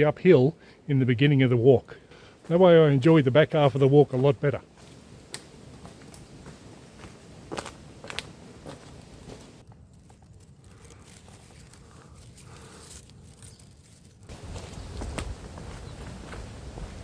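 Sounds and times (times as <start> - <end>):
footsteps on forest track: 2.1 - 17.0.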